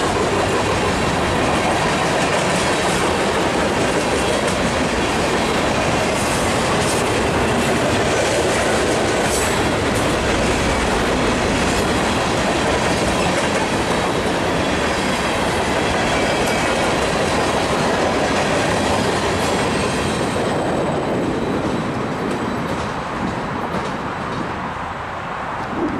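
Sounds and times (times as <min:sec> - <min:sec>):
freight train rolling past: 0:00.0 - 0:25.9.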